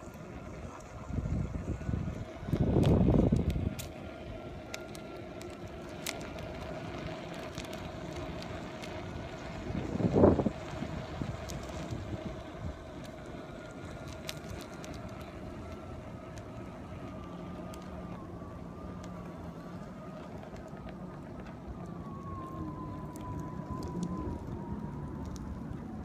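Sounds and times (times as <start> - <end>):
small ticks: 0.0 - 25.9
high motor whine: 0.0 - 26.0
tyre and wind noise: 0.0 - 26.0.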